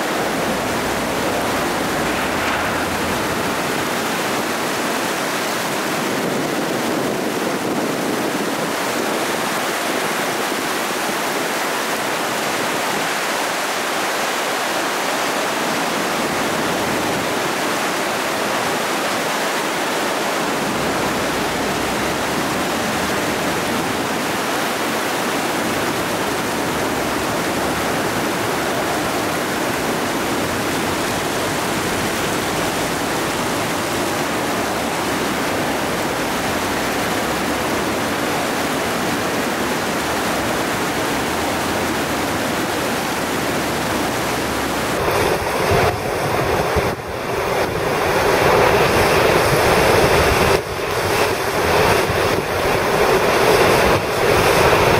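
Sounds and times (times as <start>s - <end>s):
floodwater rushing: 0.0s - 54.9s.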